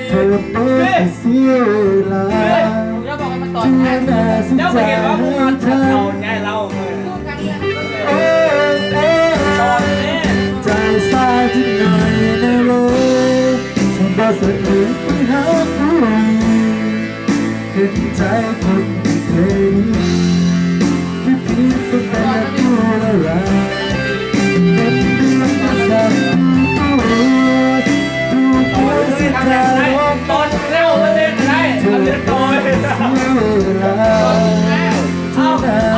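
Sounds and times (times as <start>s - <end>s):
song with guitar and steady beat: 0.0s - 35.9s.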